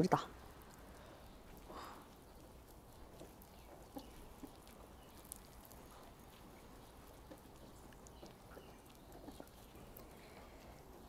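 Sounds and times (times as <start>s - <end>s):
faint rain pattering: 0.0s - 11.0s.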